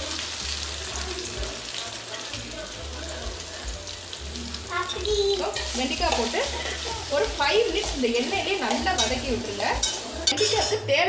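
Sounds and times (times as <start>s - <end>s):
okra sizzling in hot oil: 0.0s - 11.0s.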